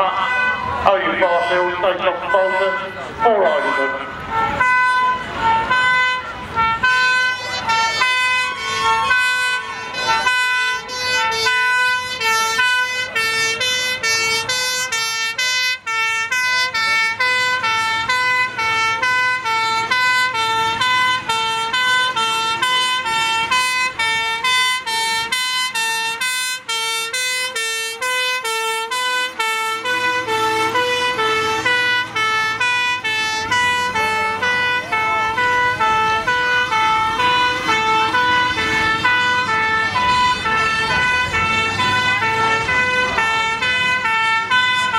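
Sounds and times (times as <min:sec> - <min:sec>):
engines running: 0:00.0 - 0:44.9
fire engine two-tone siren: 0:00.0 - 0:44.9
second siren: 0:00.0 - 0:44.9.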